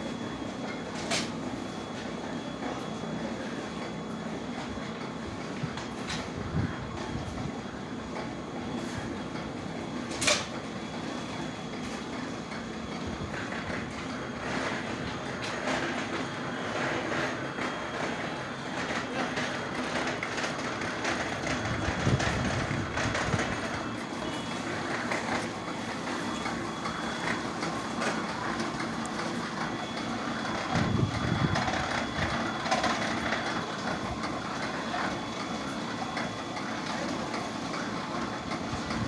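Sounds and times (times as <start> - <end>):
brick-making machine clatter: 0.0 - 39.0.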